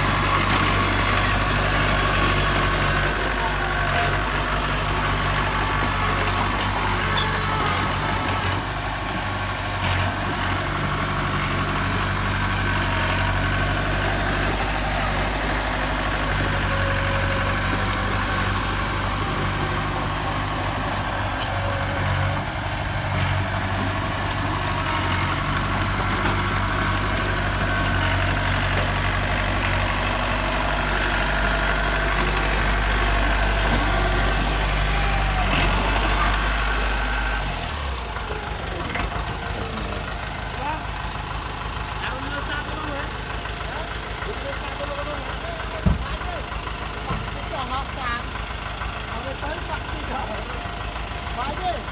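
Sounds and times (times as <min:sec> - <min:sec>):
heavy diesel engine droning: 0:00.0 - 0:51.9.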